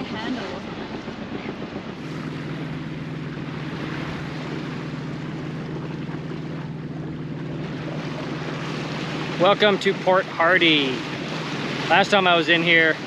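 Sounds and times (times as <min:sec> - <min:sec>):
boat engine humming: 0:00.0 - 0:13.0
wind and water hiss: 0:00.0 - 0:13.0.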